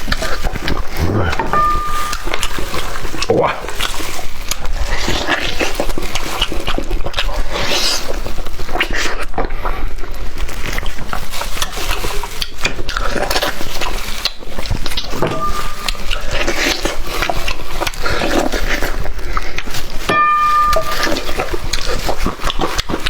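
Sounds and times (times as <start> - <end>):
person chewing meat: 0.0 - 23.0.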